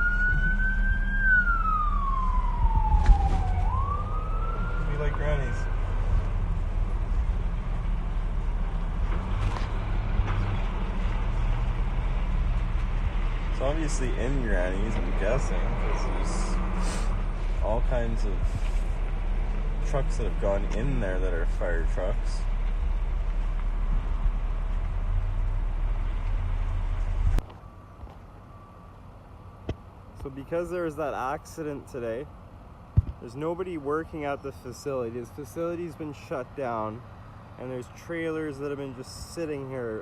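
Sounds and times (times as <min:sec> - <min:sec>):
vehicle engine humming: 0:00.0 - 0:40.0.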